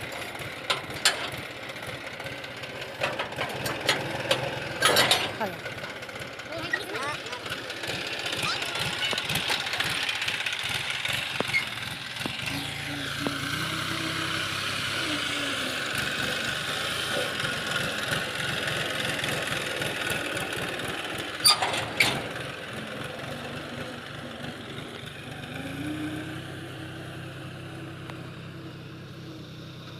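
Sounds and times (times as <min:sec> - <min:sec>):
tractor engine running: 0:00.0 - 0:29.9.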